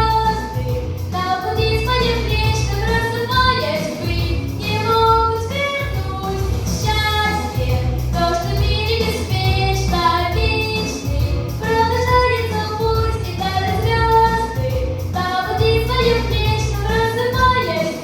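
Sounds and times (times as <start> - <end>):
girl singing: 0.0 - 18.0
instrumental accompaniment with bass: 0.0 - 18.0.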